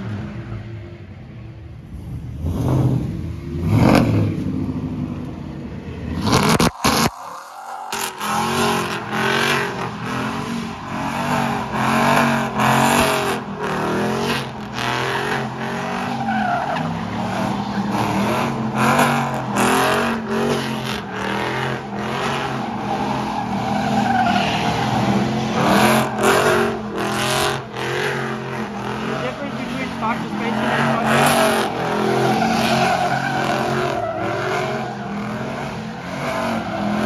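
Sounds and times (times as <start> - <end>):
truck engines revving: 0.0 - 37.0
tyres squealing on asphalt: 6.2 - 37.0.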